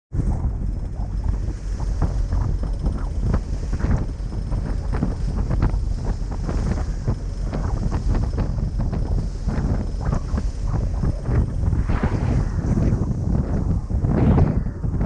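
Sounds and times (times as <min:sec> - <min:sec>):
steady low rumble: 0:00.1 - 0:15.0
wind buffeting microphone: 0:00.1 - 0:15.0.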